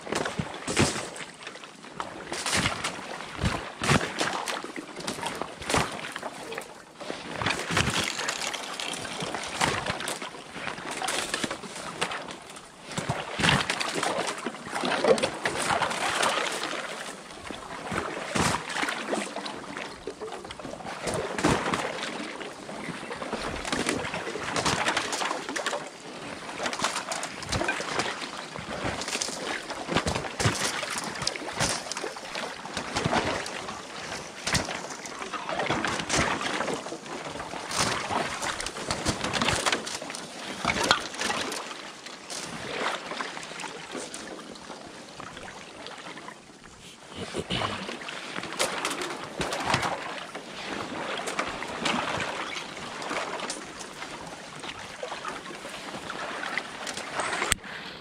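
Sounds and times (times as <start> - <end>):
water splashing: 2.3 - 12.3, 13.0 - 57.6.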